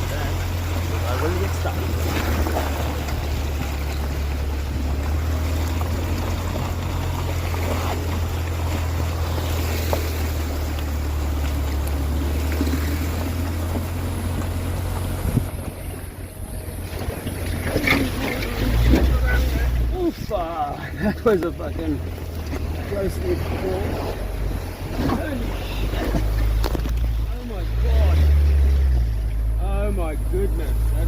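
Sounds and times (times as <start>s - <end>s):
low engine rumble: 0.0s - 31.0s
water rushing and splashing: 0.0s - 31.0s.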